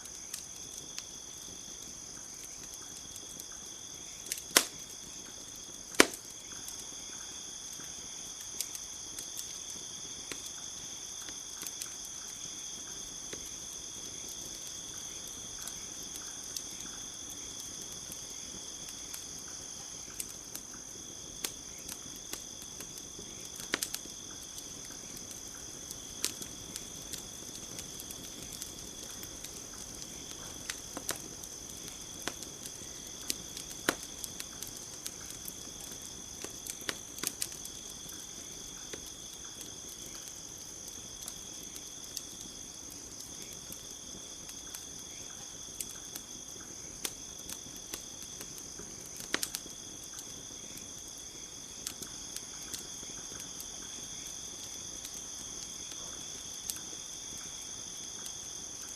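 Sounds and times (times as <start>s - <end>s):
campfire crackling and popping: 0.0s - 58.9s
crickets trilling: 0.0s - 58.9s.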